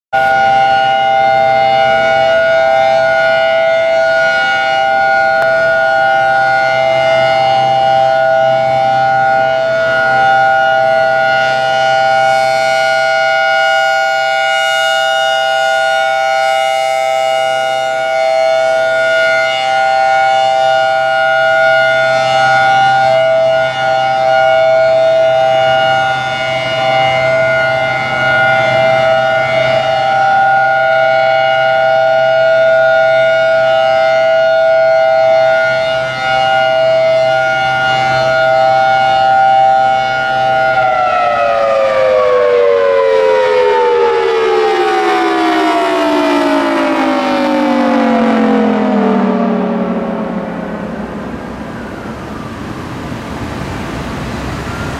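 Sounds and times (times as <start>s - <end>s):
warning siren steady tone: 0.1s - 54.9s.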